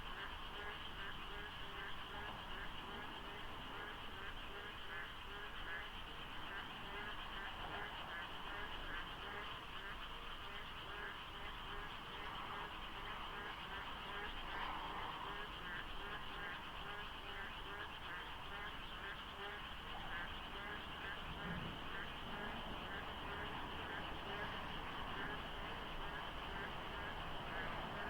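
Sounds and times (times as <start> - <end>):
frogs croaking: 0.0 - 28.0.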